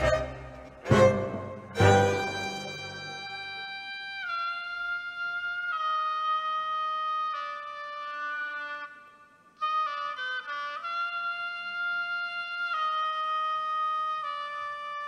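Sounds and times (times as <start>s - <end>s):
solo woodwind melody: 0.0s - 15.0s.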